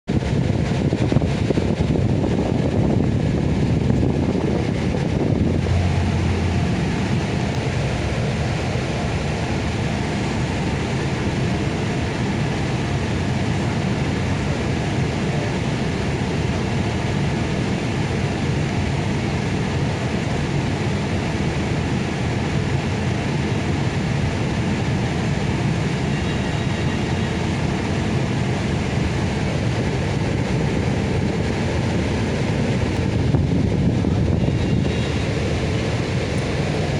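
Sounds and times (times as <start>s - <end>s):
bus engine drone: 0.0s - 36.9s
air conditioning blower: 0.1s - 36.9s.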